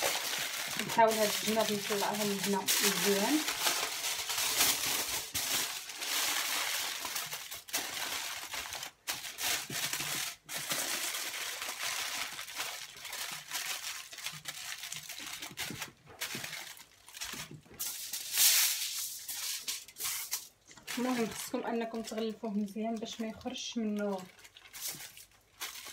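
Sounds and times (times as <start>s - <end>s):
aluminium foil crinkling: 0.0s - 25.9s.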